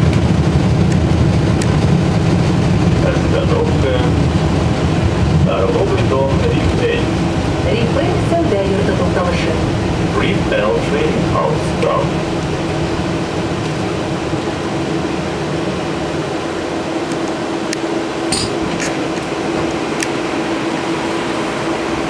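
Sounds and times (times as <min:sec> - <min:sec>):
trolleybus cabin hum: 0:00.0 - 0:22.0.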